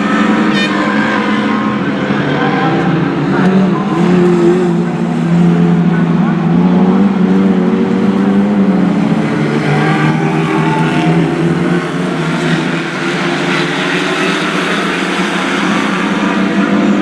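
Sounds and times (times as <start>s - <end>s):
stock car engines racing: 0.0s - 17.0s.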